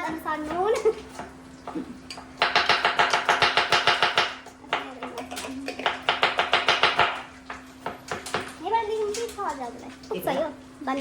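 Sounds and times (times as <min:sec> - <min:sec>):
utensil beating batter: 0:00.0 - 0:11.0.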